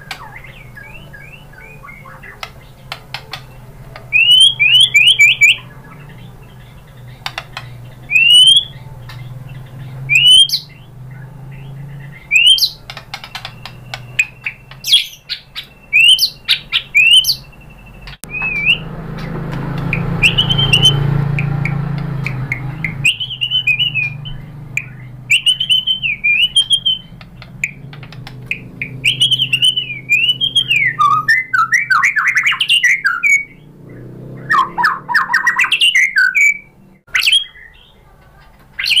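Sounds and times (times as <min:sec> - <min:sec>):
bird singing whistled notes: 0:00.0 - 0:38.0, 0:38.8 - 0:39.0.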